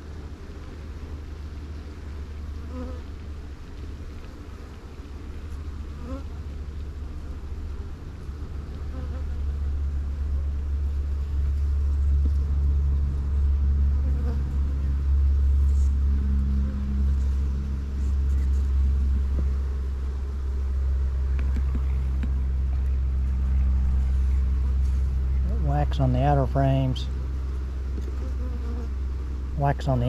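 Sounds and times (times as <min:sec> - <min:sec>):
steady low rumble: 0:00.0 - 0:30.0
honeybees buzzing: 0:01.5 - 0:30.0.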